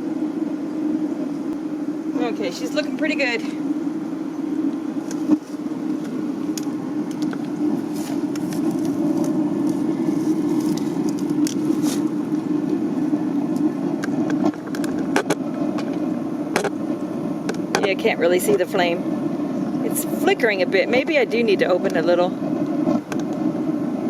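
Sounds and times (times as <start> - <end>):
burner crackles: 0.0 - 24.0
gas burner rushing: 0.0 - 24.0.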